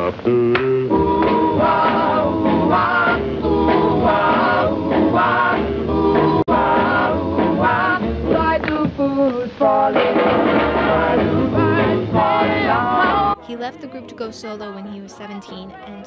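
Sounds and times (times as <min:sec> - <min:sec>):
band backing: 0:00.0 - 0:16.0
doo-wop vocal group singing: 0:00.3 - 0:16.0.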